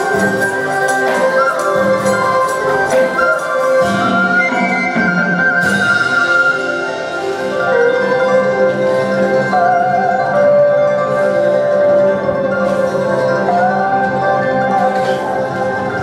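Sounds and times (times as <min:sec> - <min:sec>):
traditional ensemble playing: 0:00.0 - 0:16.0.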